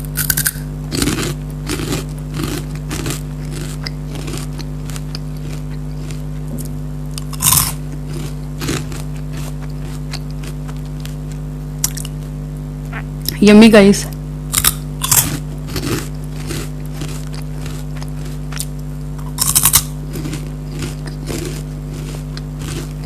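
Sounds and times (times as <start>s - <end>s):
crunching corn puffs: 0.0s - 12.3s, 14.5s - 23.0s
steady low hum: 0.0s - 23.0s.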